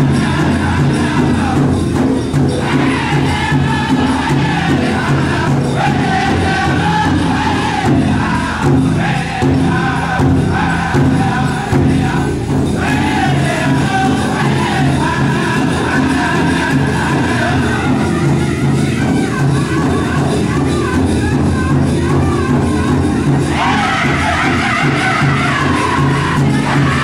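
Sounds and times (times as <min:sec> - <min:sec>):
big drum beat: 0:00.0 - 0:27.0
group singing in chorus: 0:00.0 - 0:27.0.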